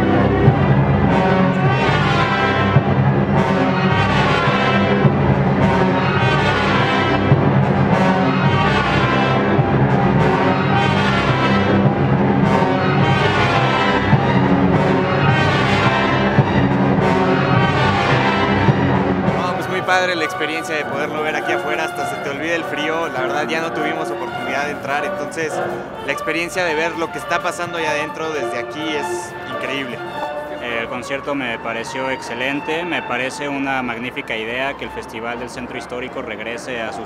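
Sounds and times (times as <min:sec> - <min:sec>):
timpani strokes: 0:00.0 - 0:32.3
symphony orchestra playing loudly: 0:00.0 - 0:37.0.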